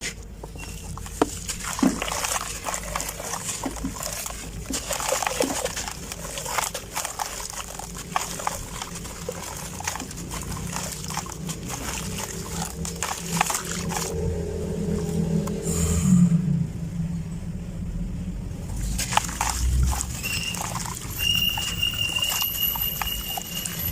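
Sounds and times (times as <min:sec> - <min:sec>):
sand-cement clumps crunching: 0:00.0 - 0:15.6, 0:18.8 - 0:23.9.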